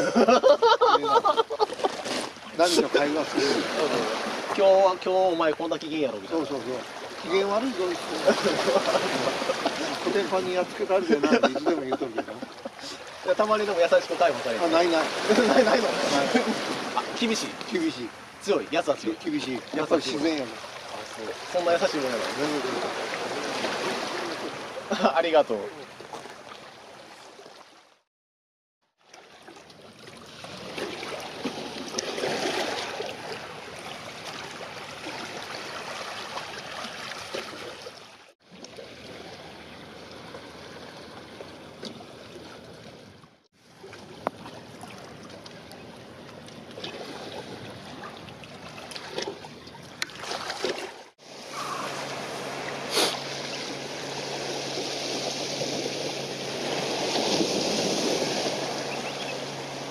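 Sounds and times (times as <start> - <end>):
small waves lapping: 0.0 - 28.1, 29.0 - 59.9.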